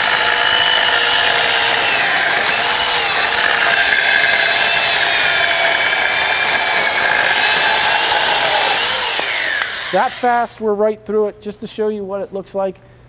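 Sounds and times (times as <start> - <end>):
electric chainsaw cutting log: 0.0 - 10.5.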